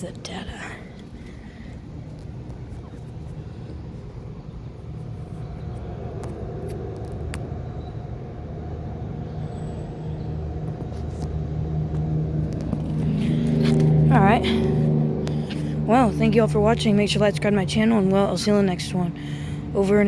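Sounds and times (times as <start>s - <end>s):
air conditioning units humming: 0.0s - 20.0s
fan noise: 0.0s - 20.0s.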